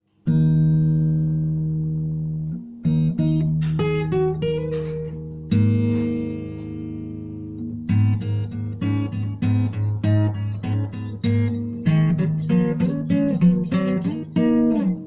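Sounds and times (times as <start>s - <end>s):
acoustic guitar playing: 0.2s - 15.0s.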